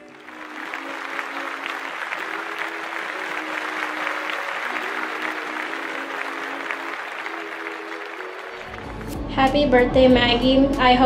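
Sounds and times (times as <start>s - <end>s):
crowd clapping: 0.0s - 9.3s
soft background music: 0.0s - 11.0s.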